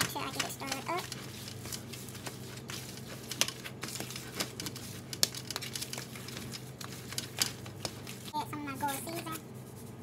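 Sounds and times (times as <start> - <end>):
hands kneading meat: 0.0 - 10.0
plastic gloves crinkling: 0.0 - 10.0.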